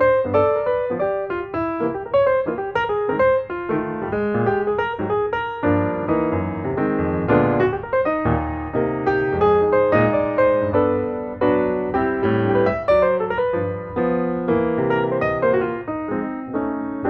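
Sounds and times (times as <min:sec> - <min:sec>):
lively piano music: 0:00.0 - 0:17.0.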